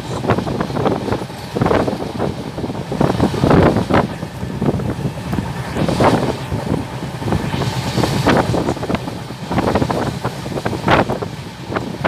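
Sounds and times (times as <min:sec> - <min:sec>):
train wheels rumbling on track: 0:00.0 - 0:12.0
wind gusting over microphone: 0:00.0 - 0:12.0.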